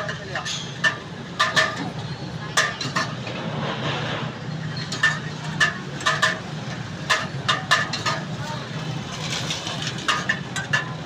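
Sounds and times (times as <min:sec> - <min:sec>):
street hum: 0:00.0 - 0:11.0.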